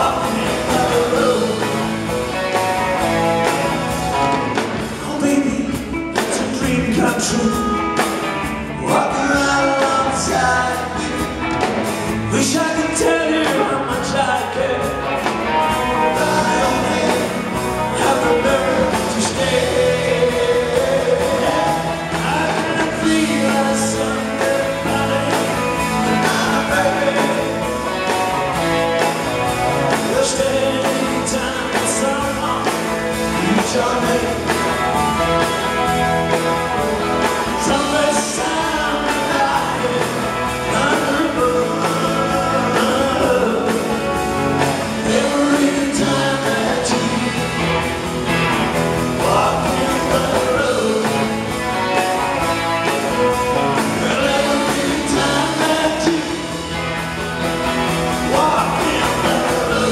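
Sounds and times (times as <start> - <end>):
live rock band playing: 0.0 - 59.9
man singing: 0.0 - 59.9.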